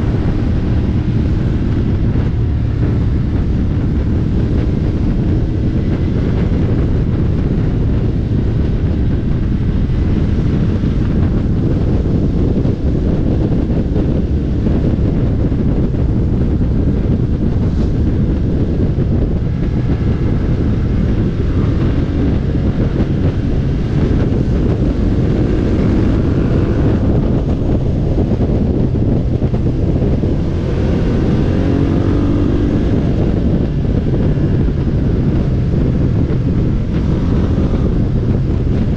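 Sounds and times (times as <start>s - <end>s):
motorcycle engine accelerating: 0.0s - 38.9s
wind noise over microphone: 0.0s - 38.9s.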